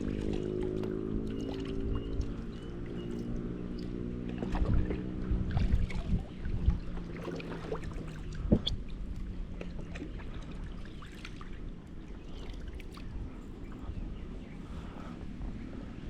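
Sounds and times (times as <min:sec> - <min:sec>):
water lapping around a canoe: 0:00.0 - 0:16.0.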